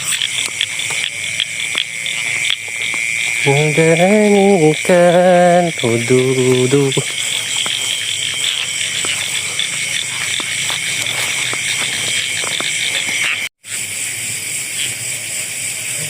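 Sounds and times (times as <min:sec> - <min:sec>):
insects and frogs chorus: 0:00.0 - 0:16.0.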